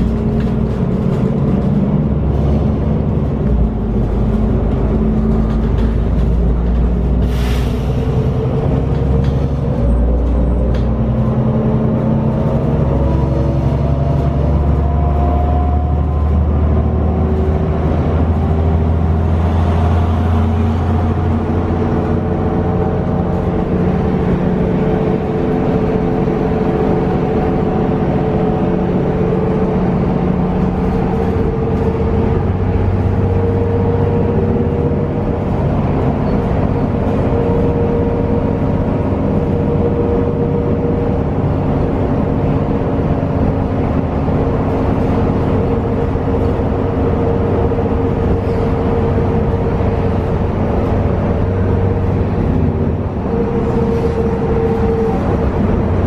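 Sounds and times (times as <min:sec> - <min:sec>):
bus engine drone: 0:00.0 - 0:56.0
road and tyre noise: 0:00.0 - 0:56.0.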